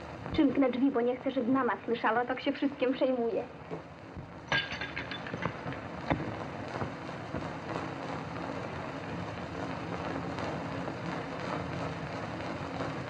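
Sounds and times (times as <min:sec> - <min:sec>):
film soundtrack hiss and crackle: 0:00.0 - 0:13.0.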